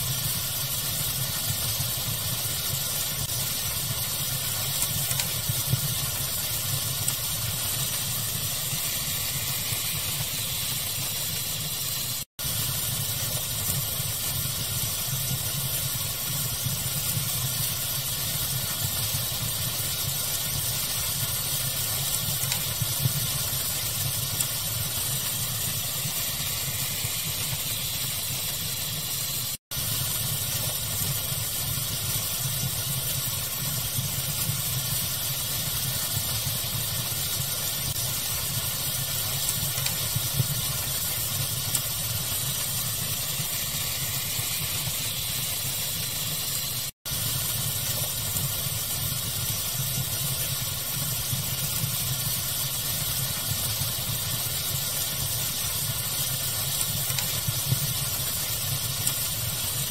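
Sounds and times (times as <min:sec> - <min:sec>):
faint fire crackles: 0:00.0 - 0:59.9
steady hiss: 0:00.0 - 0:59.9.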